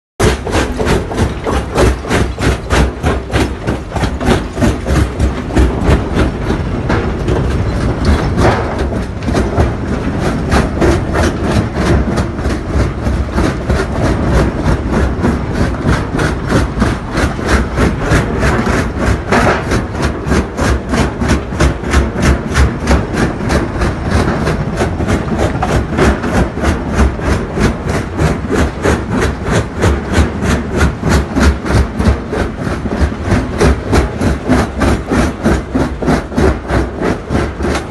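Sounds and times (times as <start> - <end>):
jaw crusher knocking: 0.2 - 37.9
rocks grinding and cracking: 0.2 - 37.9.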